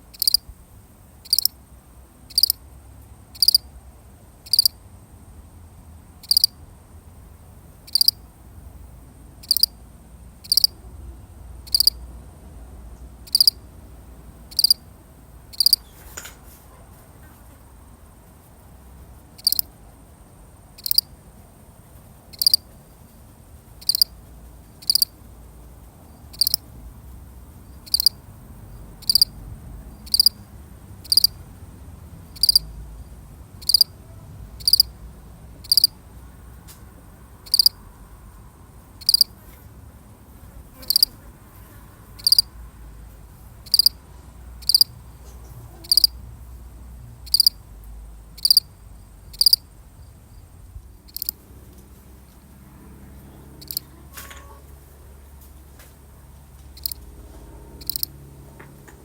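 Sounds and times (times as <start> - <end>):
field cricket chirping: 0.0 - 59.0.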